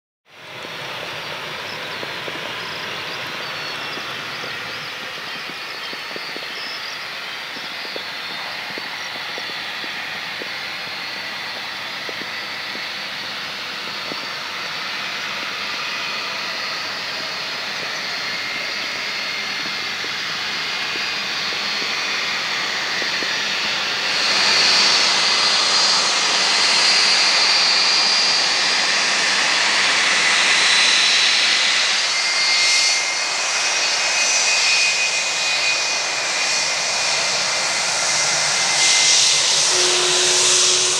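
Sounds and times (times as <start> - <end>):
jet engines of rolling airliner: 0.3 - 40.9.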